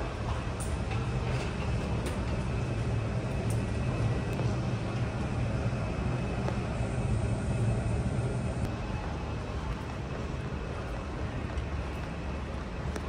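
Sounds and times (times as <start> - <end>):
faint high whine: 0.0 - 11.3
low rumble of airport apron: 0.0 - 13.0.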